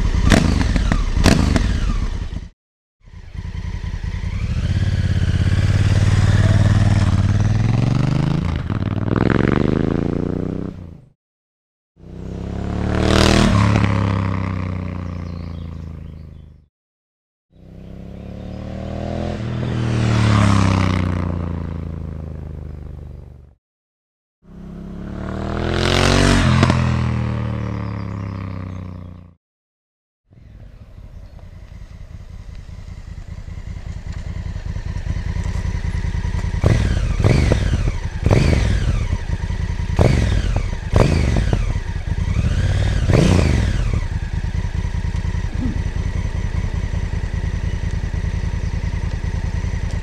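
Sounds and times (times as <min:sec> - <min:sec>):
motorcycle passing by: 0:00.0 - 0:11.0, 0:12.0 - 0:16.6, 0:17.5 - 0:23.3, 0:24.4 - 0:29.4, 0:30.3 - 0:50.0
motorcycle engine revving: 0:00.0 - 0:11.2, 0:12.0 - 0:16.7, 0:17.5 - 0:23.6, 0:24.4 - 0:29.4, 0:30.3 - 0:50.0.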